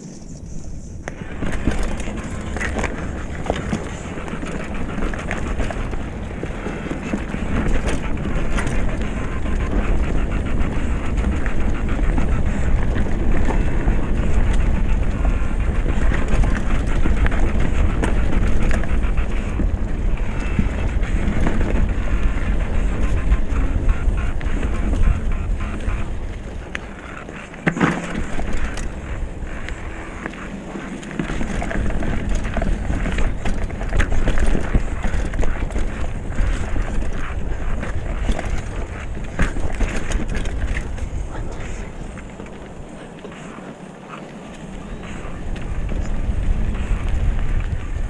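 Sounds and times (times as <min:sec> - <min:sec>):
bike rattling and clicking: 0:00.0 - 0:48.0
bike tyres on dirt and stones: 0:00.0 - 0:48.0
wind buffeting microphone: 0:00.0 - 0:48.0.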